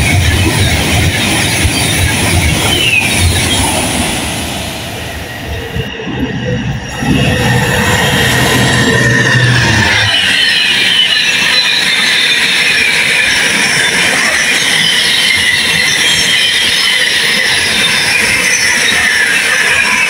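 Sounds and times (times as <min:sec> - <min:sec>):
high squealing tones: 0:00.0 - 0:20.0
locomotive low drone: 0:00.0 - 0:20.0
train wagons rolling: 0:00.0 - 0:20.0.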